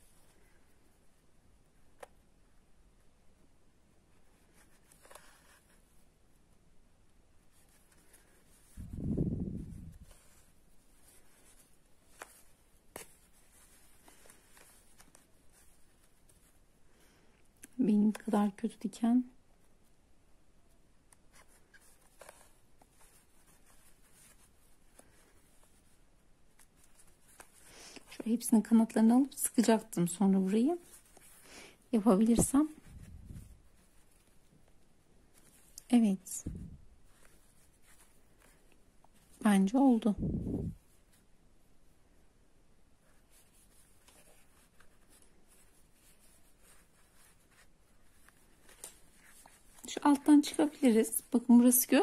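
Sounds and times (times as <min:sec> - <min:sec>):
yarn rustling through fabric: 0:03.9 - 0:06.7, 0:07.3 - 0:20.0, 0:21.1 - 0:52.0.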